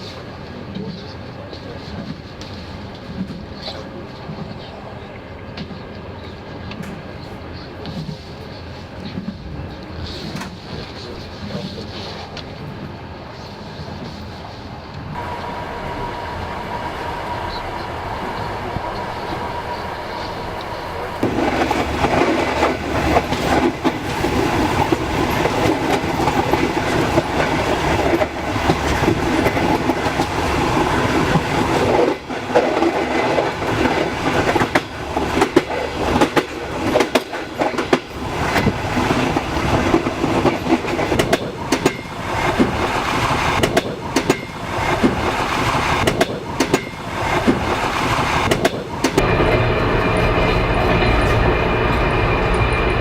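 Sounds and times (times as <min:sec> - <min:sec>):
train wheels clattering on rails: 0:00.0 - 0:16.1, 0:17.4 - 0:53.0
train rushing rumble: 0:00.0 - 0:53.0.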